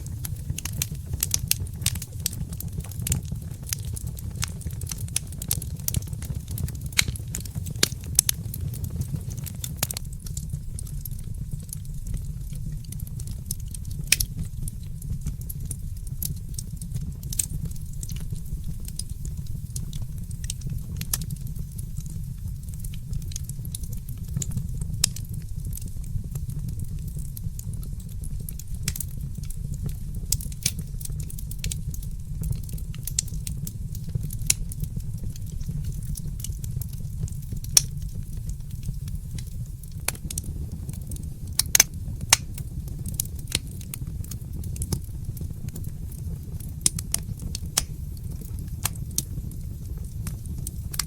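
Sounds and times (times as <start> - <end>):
fireplace crackling: 0.0 - 51.0.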